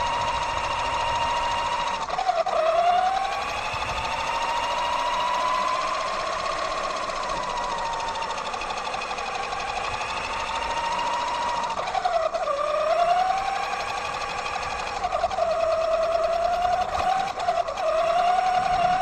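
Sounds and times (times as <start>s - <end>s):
toy truck electric motor whining: 0.0s - 19.0s.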